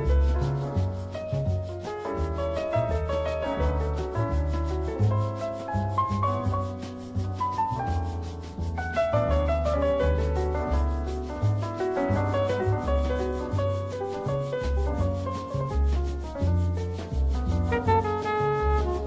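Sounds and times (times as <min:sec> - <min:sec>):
instrumental music with steady beat: 0:00.0 - 0:19.0.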